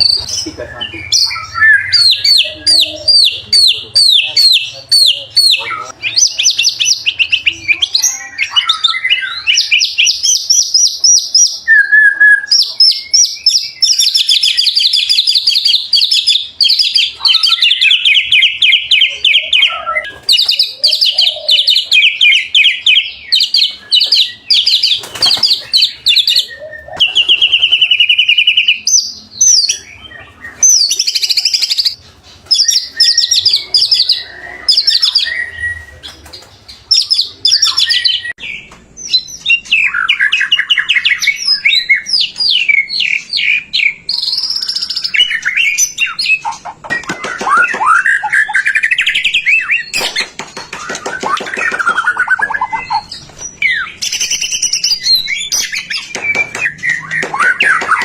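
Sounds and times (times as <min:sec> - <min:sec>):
songbird singing trills and whistles: 0:00.0 - 0:58.0.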